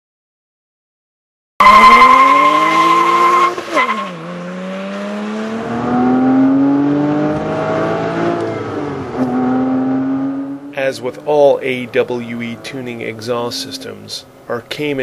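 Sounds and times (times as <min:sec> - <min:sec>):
car engine accelerating hard: 0:01.6 - 0:13.9.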